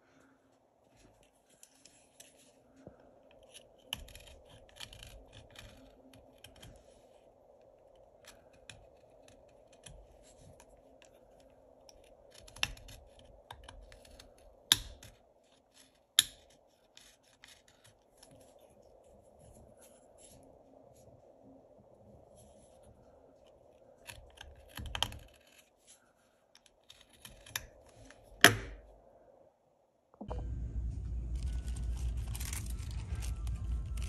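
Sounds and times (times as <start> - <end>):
faint steady hum: 0.0 - 34.0
knife shaving wood: 0.9 - 21.0, 22.2 - 28.8, 30.9 - 34.0.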